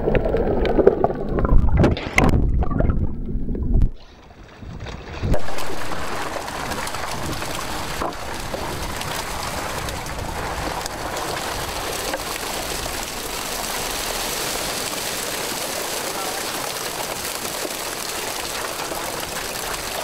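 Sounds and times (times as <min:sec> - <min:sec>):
water splashing and dripping: 0:00.0 - 0:20.0.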